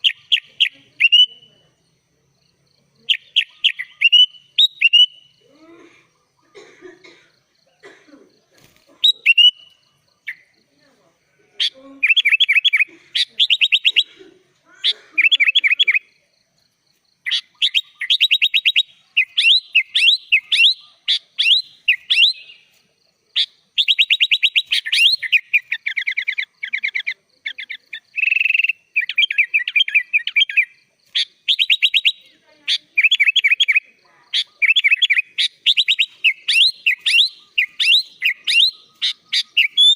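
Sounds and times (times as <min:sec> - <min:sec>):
bulbul singing trilled phrases: 0:00.0 - 0:06.7, 0:07.6 - 0:14.3, 0:14.9 - 0:39.9.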